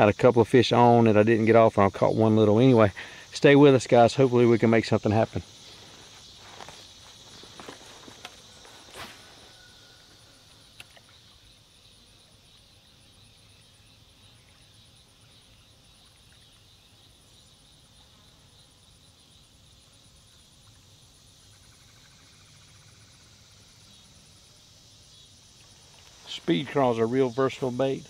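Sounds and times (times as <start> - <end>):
insects trilling: 0.0 - 28.0
low hiss: 0.0 - 28.0.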